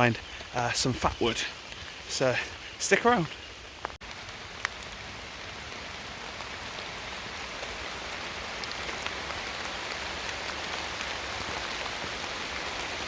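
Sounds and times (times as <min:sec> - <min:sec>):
raindrops ticking: 0:00.0 - 0:13.0
steady rain in woodland: 0:00.0 - 0:13.0.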